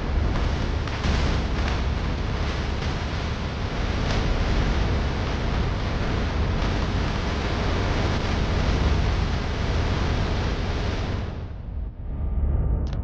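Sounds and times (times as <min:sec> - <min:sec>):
deep rumble: 0:00.0 - 0:13.0.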